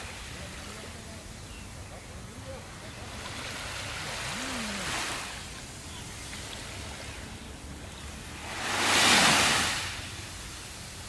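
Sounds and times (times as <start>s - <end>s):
waves washing up sandy beach: 0.0s - 11.0s.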